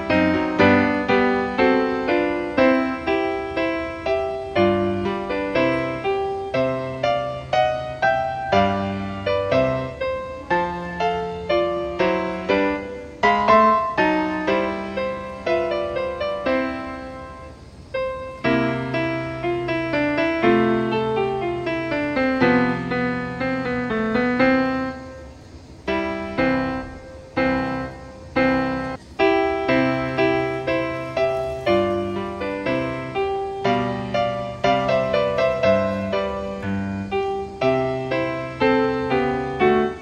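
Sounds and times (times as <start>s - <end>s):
gentle piano music: 0.0s - 40.0s.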